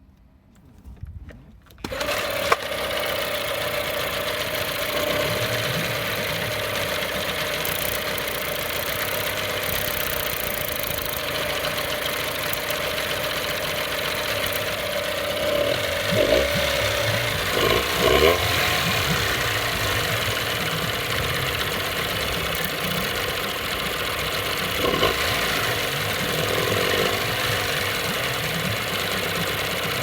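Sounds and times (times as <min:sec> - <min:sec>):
outboard motor running: 0:01.8 - 0:30.0.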